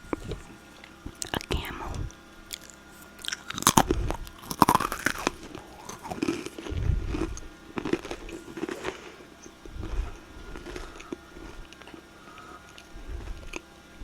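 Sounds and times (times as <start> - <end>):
crunchy food chewing: 0.0 - 14.0.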